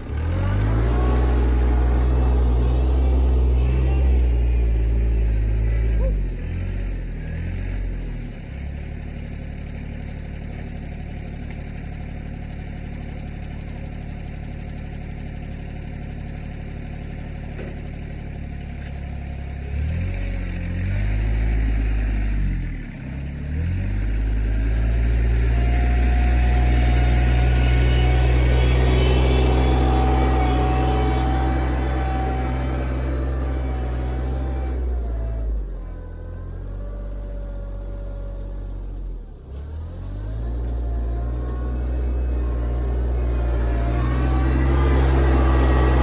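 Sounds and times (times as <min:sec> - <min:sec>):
tractor diesel engine revving: 0:00.0 - 0:46.0.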